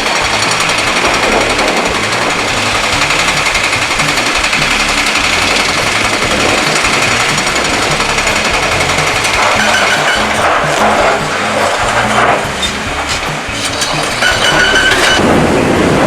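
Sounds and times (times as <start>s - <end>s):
jackhammer hammering rapidly: 0.0s - 16.0s.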